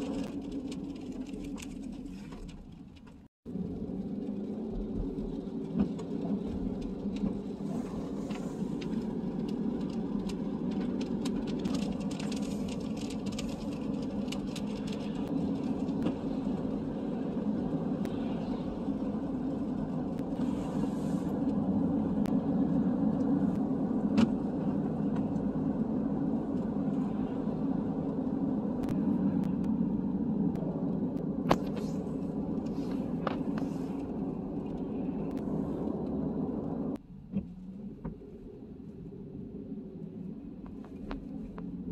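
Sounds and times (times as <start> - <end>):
car engine rumble: 0.0 - 41.9
tyres on wet road: 0.0 - 41.9.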